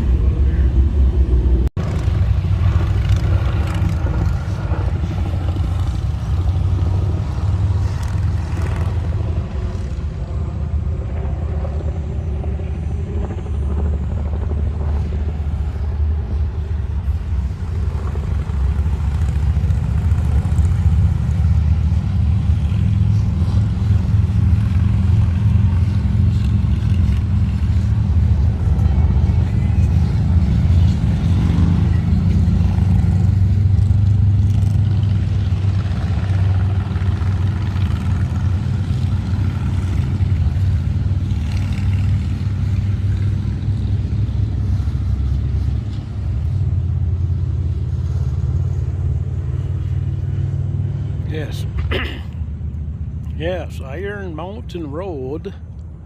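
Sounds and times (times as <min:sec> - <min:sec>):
motorcycle engine running: 0:00.0 - 0:45.6
heavy wind rumble: 0:00.0 - 0:56.0.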